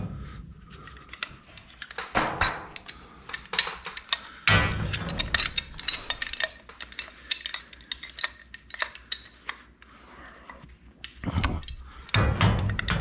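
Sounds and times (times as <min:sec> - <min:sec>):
tools clattering: 0:00.8 - 0:09.8, 0:10.6 - 0:13.0.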